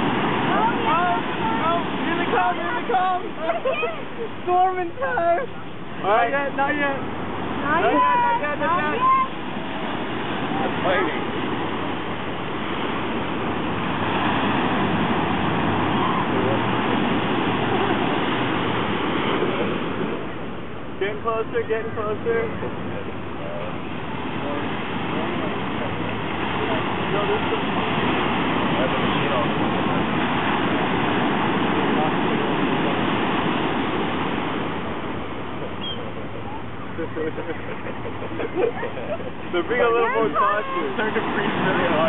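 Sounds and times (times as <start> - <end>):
surf on a beach: 0.0 - 42.0
wind: 0.0 - 42.0.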